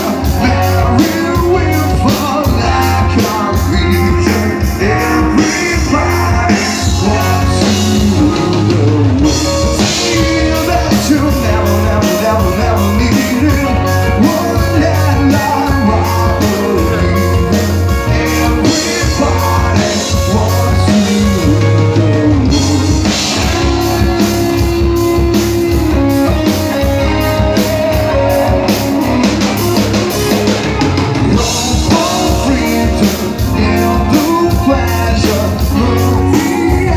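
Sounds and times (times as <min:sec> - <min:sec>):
drum kit: 0:00.0 - 0:36.9
electric guitar: 0:00.0 - 0:36.9
person singing: 0:00.0 - 0:36.9.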